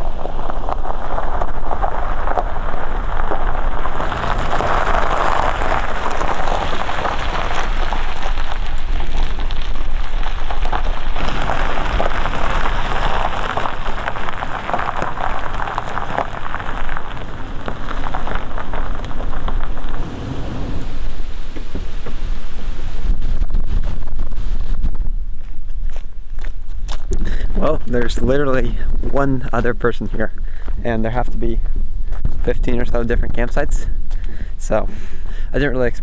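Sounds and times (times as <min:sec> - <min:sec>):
tyres crunching over gravel: 0:00.0 - 0:36.0.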